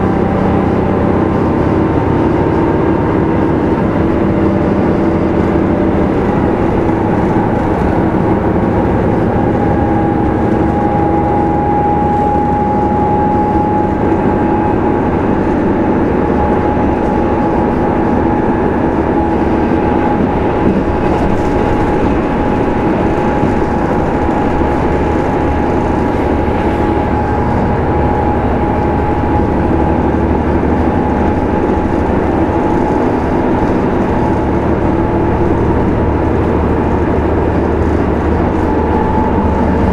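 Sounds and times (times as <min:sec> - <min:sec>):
diesel railcar running on rails: 0:00.0 - 0:39.9
steady high whine: 0:00.0 - 0:39.9.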